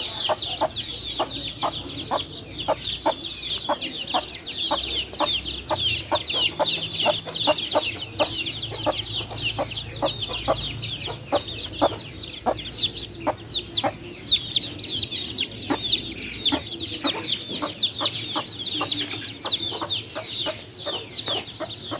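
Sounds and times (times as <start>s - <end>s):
chickens clucking: 0.0s - 21.9s
chicks peeping: 0.0s - 21.9s.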